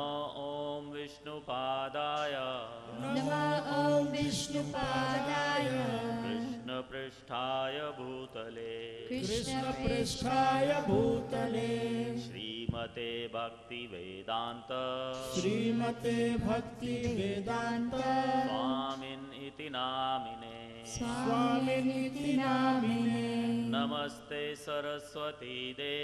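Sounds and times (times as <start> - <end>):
person singing prayers: 0.0 - 26.0.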